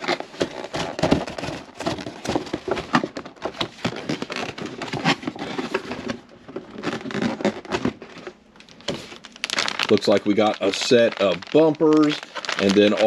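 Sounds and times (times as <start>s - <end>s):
cardboard and plastic packaging crinkling: 0.0s - 13.0s.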